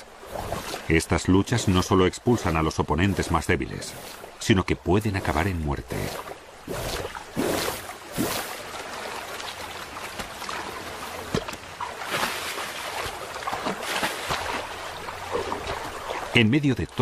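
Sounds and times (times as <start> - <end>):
river water rushing over stones: 0.0 - 17.0
short water splashes: 0.0 - 17.0.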